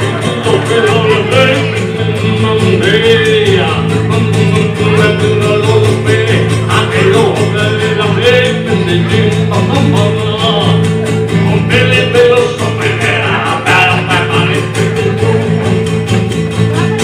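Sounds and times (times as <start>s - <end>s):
acoustic guitar strummed: 0.0s - 17.0s
bending melody line: 0.0s - 17.0s.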